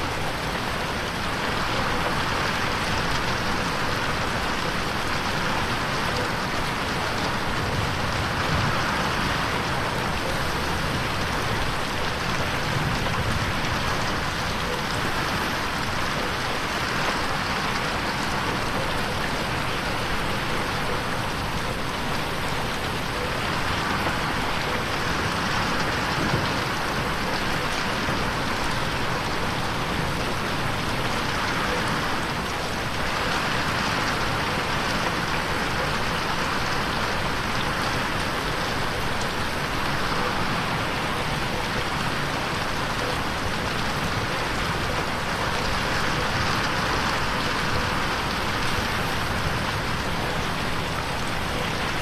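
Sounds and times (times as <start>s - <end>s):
rain pattering on window: 0.0s - 52.0s.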